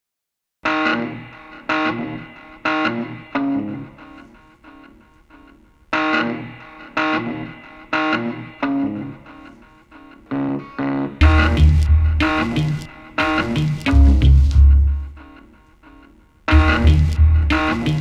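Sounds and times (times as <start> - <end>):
electric guitar chords ringing: 0.6 - 18.0.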